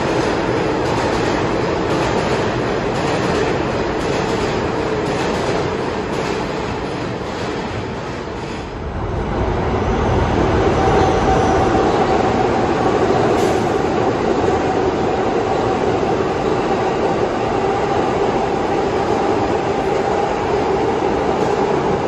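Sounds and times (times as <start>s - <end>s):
subway train rumbling and clattering: 0.0s - 22.0s
subway train whine: 0.0s - 22.0s.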